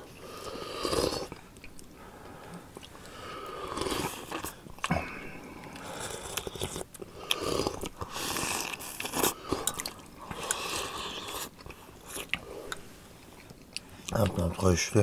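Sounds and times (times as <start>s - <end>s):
men chewing: 0.0s - 14.7s.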